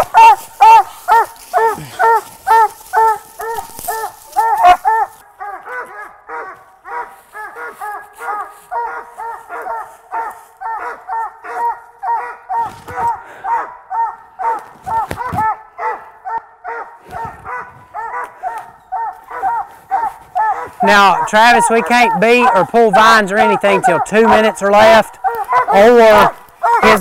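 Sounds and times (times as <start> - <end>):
dog barking: 0.0 - 27.0.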